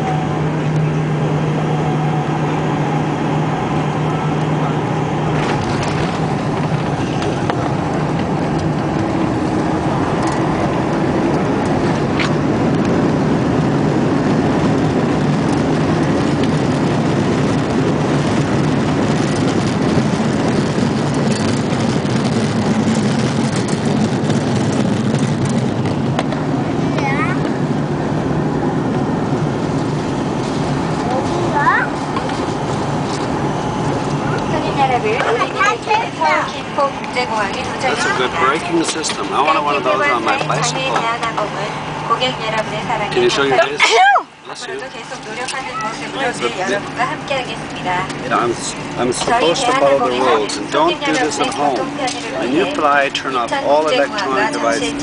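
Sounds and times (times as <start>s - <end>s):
jet engines droning: 0.0s - 55.0s
rush of air and wheels: 0.0s - 55.0s.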